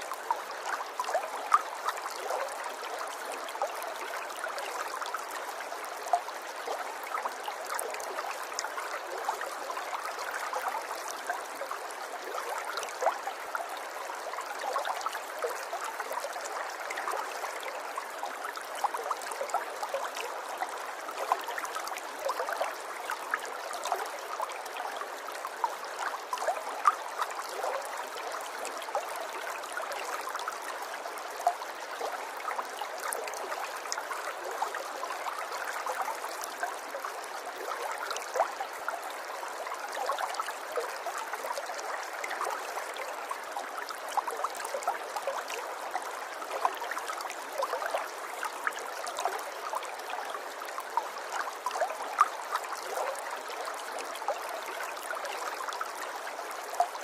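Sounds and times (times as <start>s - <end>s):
river water babbling over stones: 0.0s - 57.0s.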